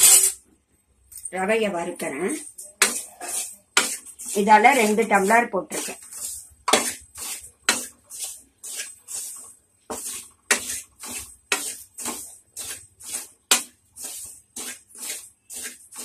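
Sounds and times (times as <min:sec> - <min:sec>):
spatula scraping in a pan: 0:00.0 - 0:00.5, 0:01.4 - 0:16.0.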